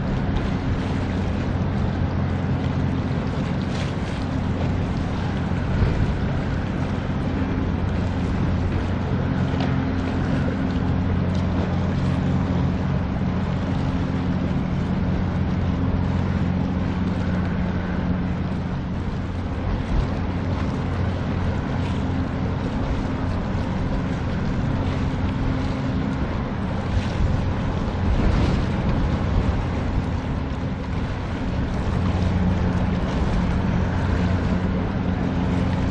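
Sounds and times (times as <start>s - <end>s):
ship engines droning: 0.0s - 35.9s
water noise: 0.0s - 35.9s
wind on microphone: 0.0s - 35.9s.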